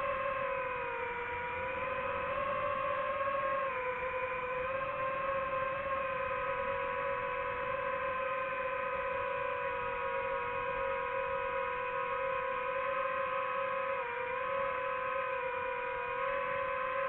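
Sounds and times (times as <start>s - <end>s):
drone motors buzzing whine: 0.0s - 17.0s.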